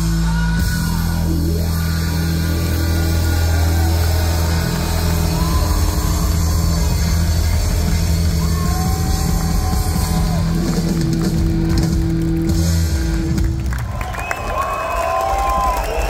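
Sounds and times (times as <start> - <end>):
live hard rock band: 0.0 - 13.8.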